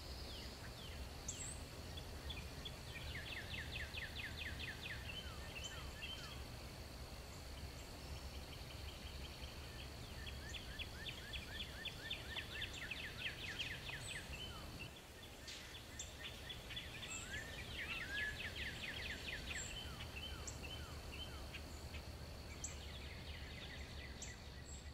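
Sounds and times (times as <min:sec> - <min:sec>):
birds singing: 0:00.0 - 0:24.9.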